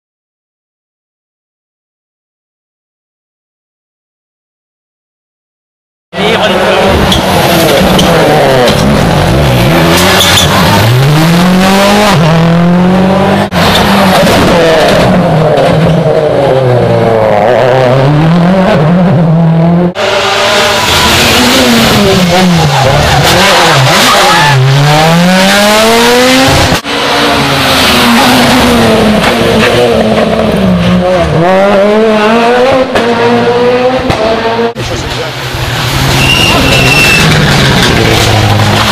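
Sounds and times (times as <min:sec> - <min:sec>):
rally car engines revving: 0:06.2 - 0:38.9.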